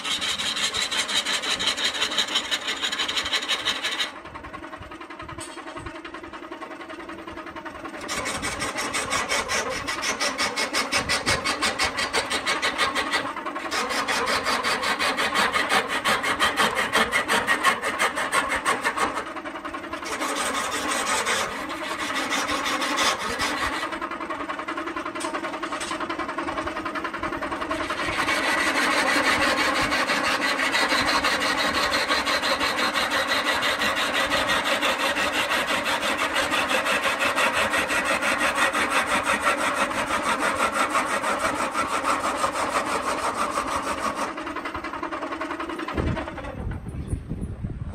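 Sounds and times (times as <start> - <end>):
lathe tool scraping wood: 0.0 - 4.3, 5.4 - 46.5
lathe motor hum: 0.0 - 46.8.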